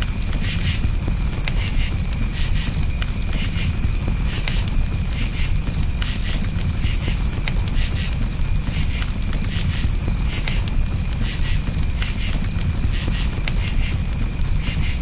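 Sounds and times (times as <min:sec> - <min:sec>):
campfire crackling and popping: 0:00.0 - 0:15.0
crickets chirping: 0:00.0 - 0:15.0.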